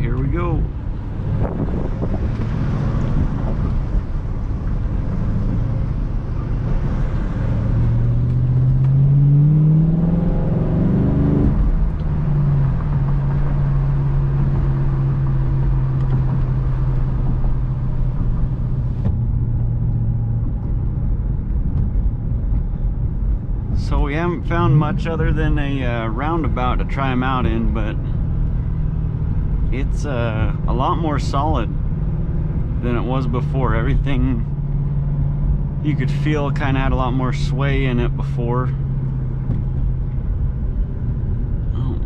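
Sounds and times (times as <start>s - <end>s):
car engine from inside cabin: 0.0s - 42.0s
road rumble: 0.0s - 42.0s.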